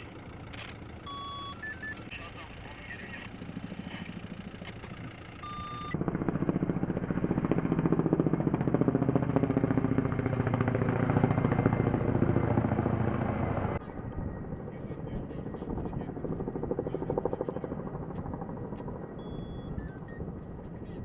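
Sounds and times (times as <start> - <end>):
helicopter rotor chopping: 0.0 - 21.0
vehicle engine rumble: 0.0 - 21.0.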